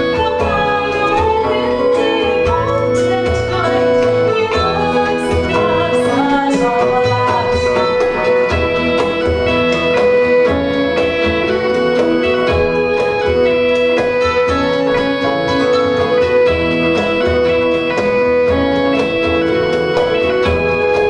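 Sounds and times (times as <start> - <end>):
celtic band playing live: 0.0 - 21.0.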